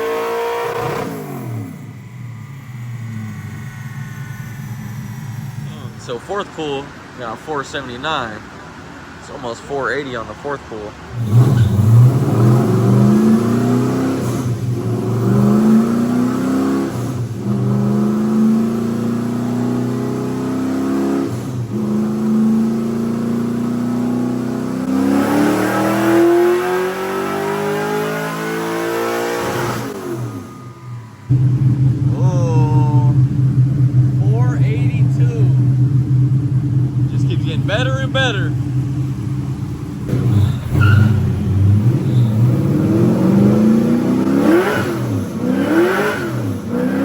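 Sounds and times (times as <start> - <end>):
car engine revving: 0.0 - 9.2, 11.0 - 47.0.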